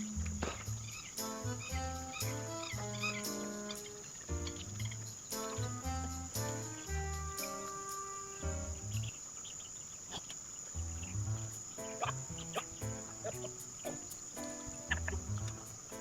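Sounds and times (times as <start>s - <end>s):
low stepping background music: 0.0s - 9.1s, 10.8s - 16.0s
crickets chirping: 0.0s - 16.0s.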